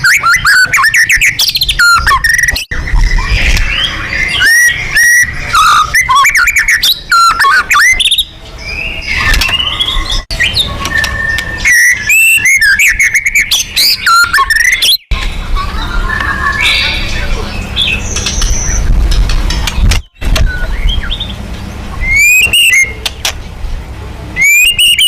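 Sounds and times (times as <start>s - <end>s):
songbird singing loudly: 0.0s - 15.1s, 15.9s - 19.0s, 20.0s - 23.0s, 24.4s - 25.0s.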